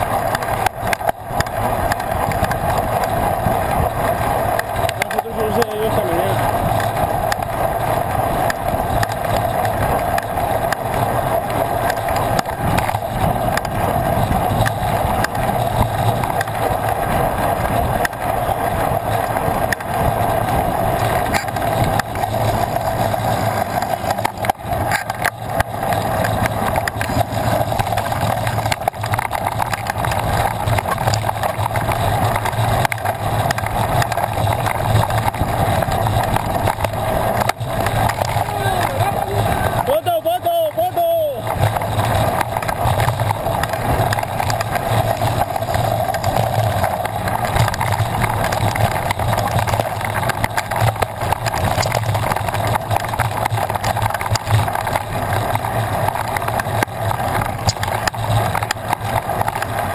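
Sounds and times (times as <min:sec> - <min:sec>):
bike tyres humming on pavement: 0:00.0 - 0:59.9.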